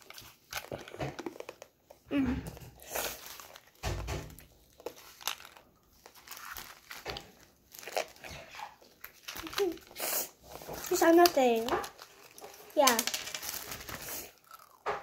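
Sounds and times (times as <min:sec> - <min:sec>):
candy wrappers crinkling: 0:00.0 - 0:15.0.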